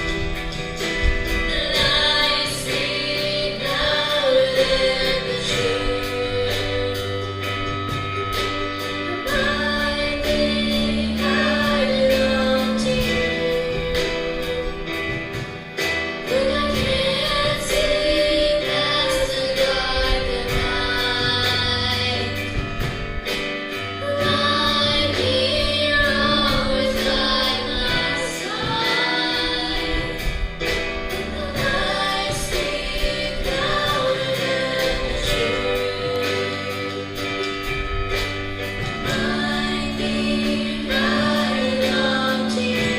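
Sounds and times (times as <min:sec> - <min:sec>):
steady drum beat: 0:00.0 - 0:42.9
sustained bass notes: 0:00.0 - 0:42.9
woman singing lead vocals: 0:01.2 - 0:08.2, 0:08.8 - 0:15.4, 0:16.2 - 0:23.0, 0:23.7 - 0:37.8, 0:39.0 - 0:42.9.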